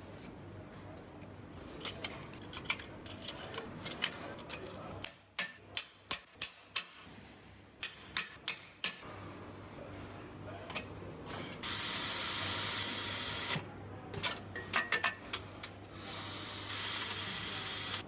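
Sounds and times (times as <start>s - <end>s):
low workshop hum: 0.0s - 18.0s.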